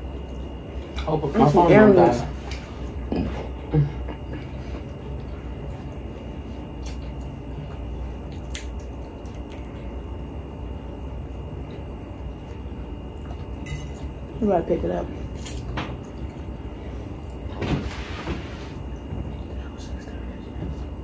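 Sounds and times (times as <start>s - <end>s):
low room hum and hiss: 0.0s - 21.0s.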